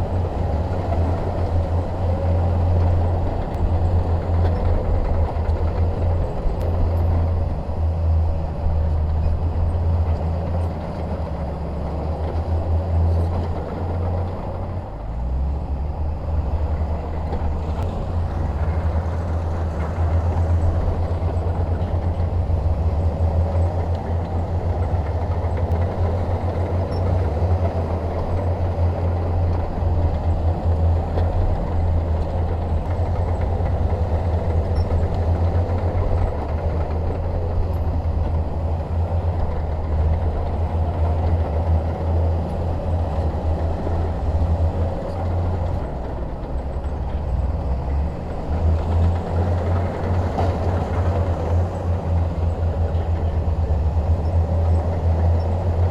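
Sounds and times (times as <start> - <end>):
bulldozer diesel engine rumbling: 0.0 - 55.9.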